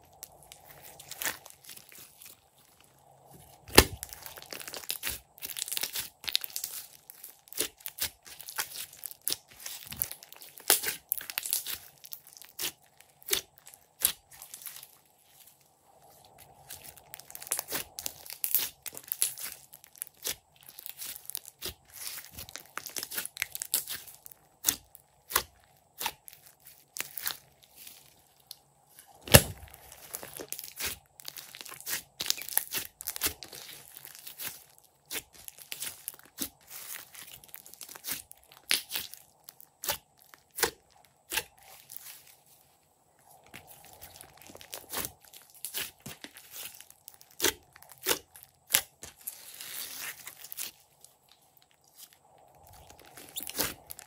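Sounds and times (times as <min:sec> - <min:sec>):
slime crackling and popping: 0:00.0 - 0:15.4, 0:16.2 - 0:42.3, 0:43.3 - 0:54.0.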